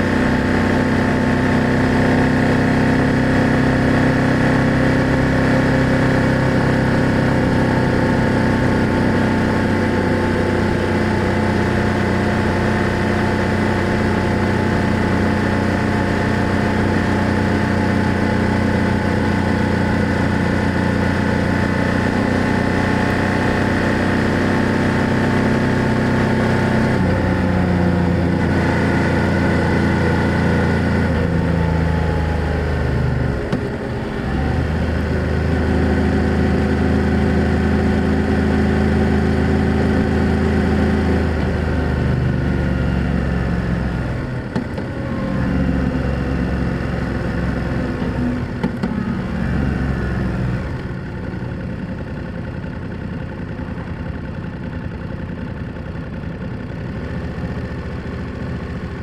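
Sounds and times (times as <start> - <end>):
motorcycle engine and exhaust: 0.0 - 59.0.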